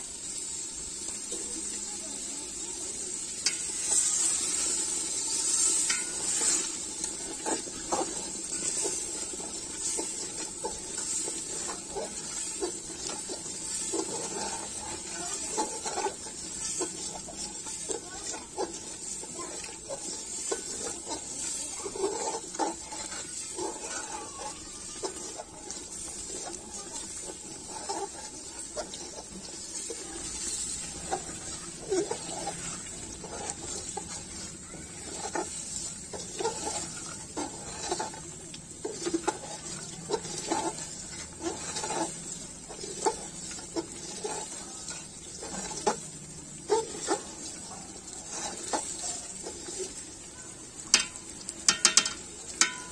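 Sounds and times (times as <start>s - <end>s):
metal ladle scraping metal pot: 3.3s - 38.2s, 38.8s - 50.0s, 51.0s - 52.9s.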